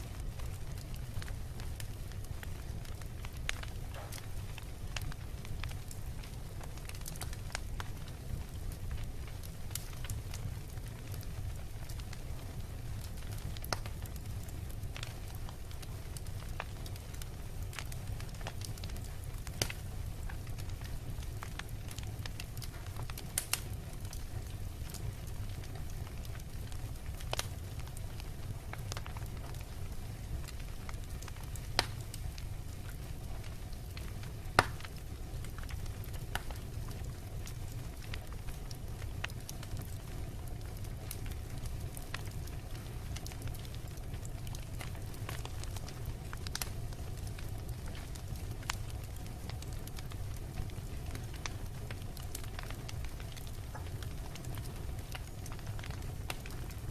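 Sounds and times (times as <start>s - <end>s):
wood bonfire crackling: 0.0s - 56.9s
sharp pops of fire: 0.1s - 56.9s.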